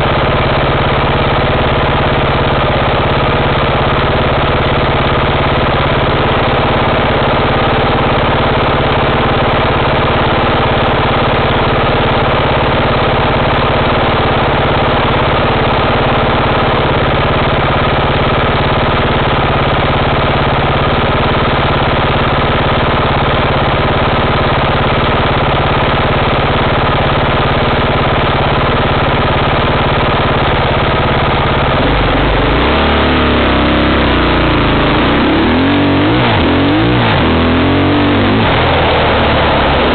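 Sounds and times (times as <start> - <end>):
vehicle engine idling and revving: 0.0 - 39.9.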